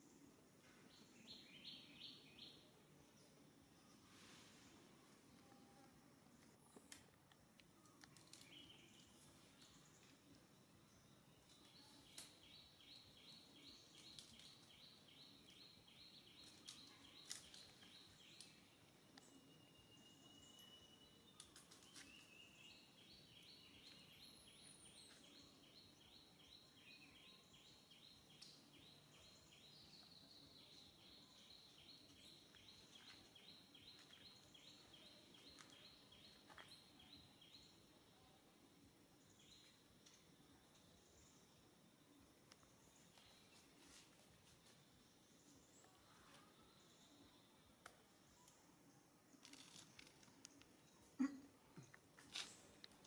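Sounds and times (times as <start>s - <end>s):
faint high-pitched chirping: 0.0s - 6.9s, 7.6s - 53.0s.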